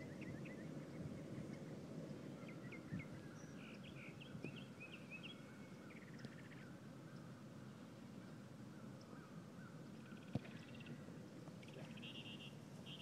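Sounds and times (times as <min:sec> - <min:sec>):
faint birds chirping: 0:00.0 - 0:13.0
low outdoor rumble: 0:00.0 - 0:13.0.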